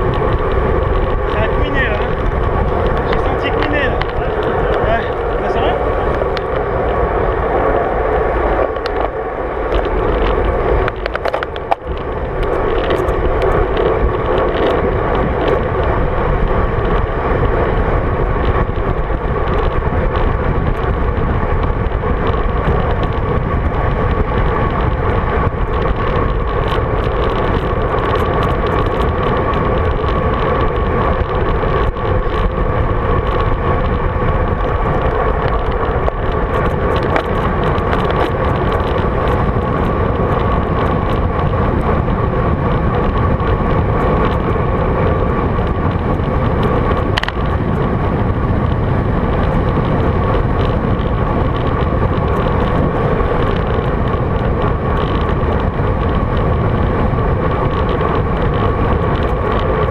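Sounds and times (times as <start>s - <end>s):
bike tyres rolling on tarmac: 0.0s - 59.9s
wind buffeting camera: 0.0s - 59.9s.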